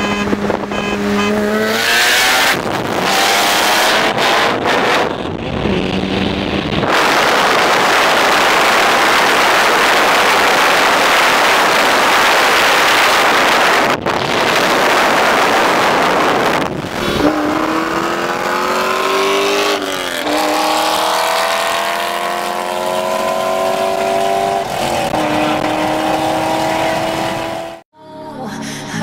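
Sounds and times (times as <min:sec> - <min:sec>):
car engine at full throttle: 0:00.0 - 0:27.8
rushing wind and road noise: 0:00.0 - 0:27.8.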